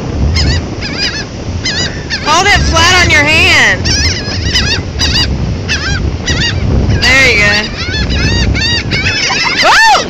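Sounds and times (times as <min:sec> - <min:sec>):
low rumble: 0:00.0 - 0:10.0
flock of birds calling: 0:00.4 - 0:10.0.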